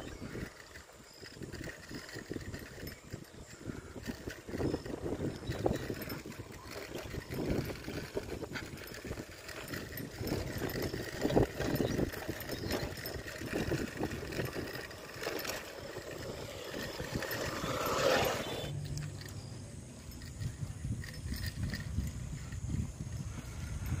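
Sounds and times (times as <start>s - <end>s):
bicycle rattles and knocks: 0.0s - 24.0s
bicycle tyres rumbling on concrete: 0.0s - 24.0s.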